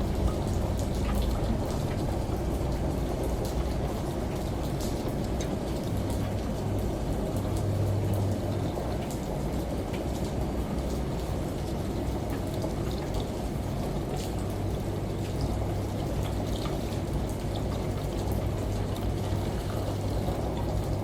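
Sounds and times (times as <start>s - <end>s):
raindrop ticks: 0.0s - 21.0s
shower water rushing: 0.0s - 21.0s
washing machine hum: 0.0s - 21.0s.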